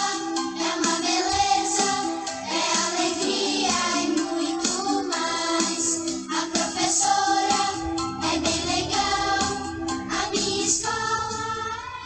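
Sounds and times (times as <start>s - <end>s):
instrumental backing with beat: 0.0s - 11.7s
children's song singing: 0.0s - 12.0s.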